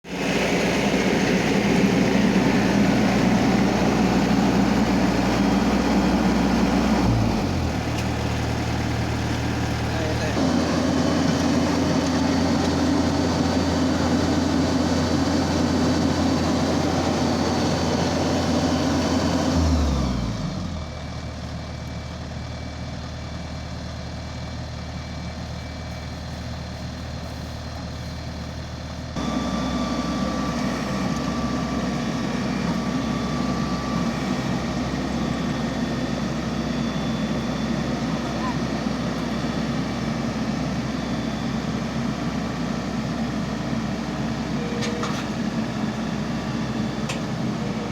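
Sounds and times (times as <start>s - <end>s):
harvester engine running: 0.0s - 47.9s.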